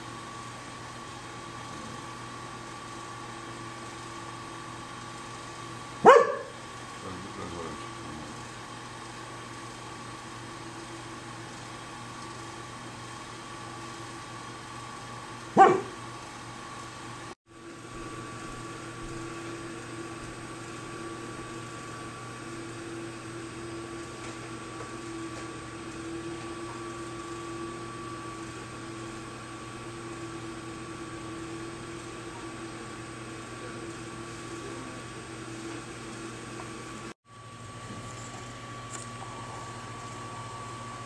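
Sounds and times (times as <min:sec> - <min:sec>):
sawmill running: 0:00.0 - 0:41.0.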